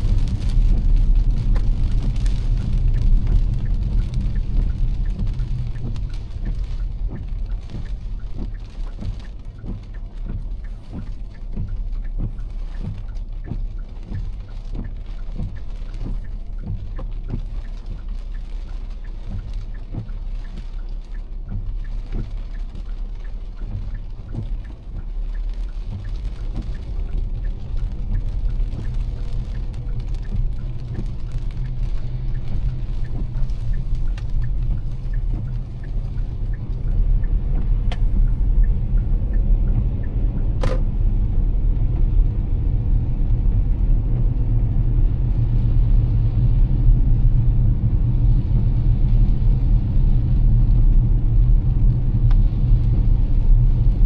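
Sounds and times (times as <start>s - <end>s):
rain drops ticking on car: 0.0s - 54.0s
tyres rumbling on wet road: 0.0s - 54.0s.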